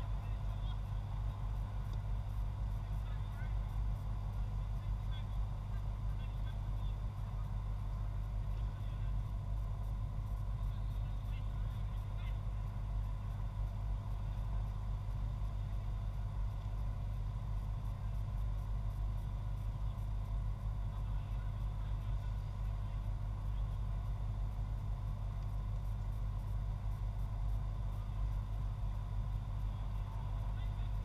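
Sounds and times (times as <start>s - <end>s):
faint hum: 0.0s - 31.0s
low background rumble: 0.0s - 31.0s.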